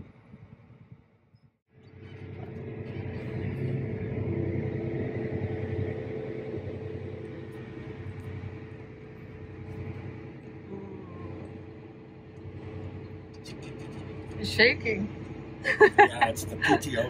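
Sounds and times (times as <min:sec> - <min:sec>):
tractor diesel engine running: 0:01.7 - 0:17.0.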